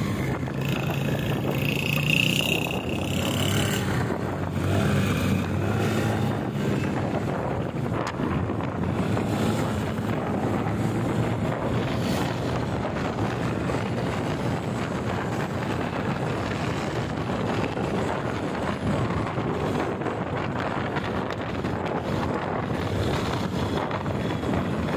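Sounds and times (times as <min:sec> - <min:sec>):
motorcycle engine drone: 0:00.0 - 0:24.9
road noise: 0:00.0 - 0:24.9
wind rushing over microphone: 0:00.0 - 0:24.9.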